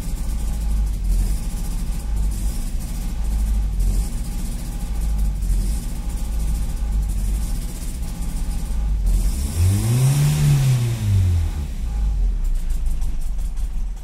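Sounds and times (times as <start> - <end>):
car engine fast idle wavering: 0.0 - 14.0.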